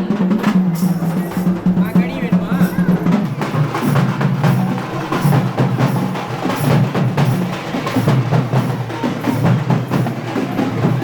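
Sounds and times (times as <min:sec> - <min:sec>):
fast drumming: 0:00.0 - 0:11.0.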